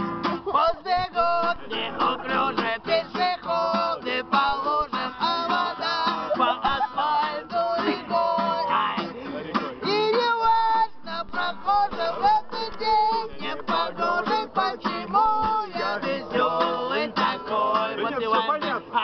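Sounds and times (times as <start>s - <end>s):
strummed acoustic guitar: 0.0s - 19.0s
people singing together: 0.4s - 19.0s.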